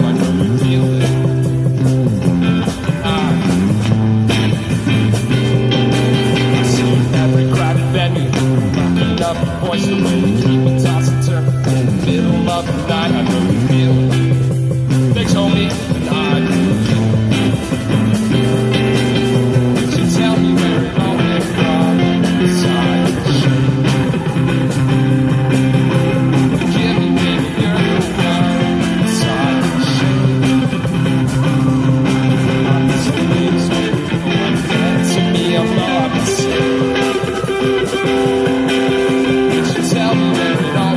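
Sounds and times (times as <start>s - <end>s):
bucket drum beat: 0.0s - 40.9s
guitar chords: 0.0s - 40.9s
street band playing: 0.0s - 40.9s.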